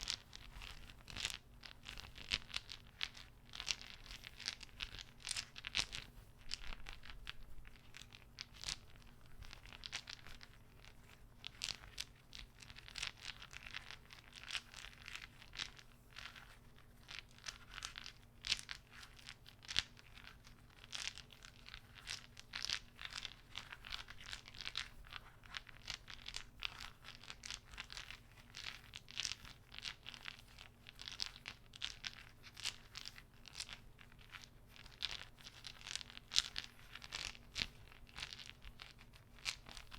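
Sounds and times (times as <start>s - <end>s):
small object clicking and crinkling: 0.0s - 39.9s.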